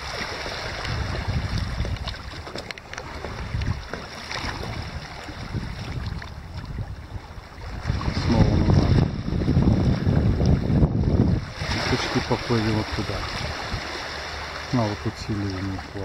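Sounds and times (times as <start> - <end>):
waves on a stony shore: 0.0 - 16.0
wind buffeting microphone: 0.0 - 16.0.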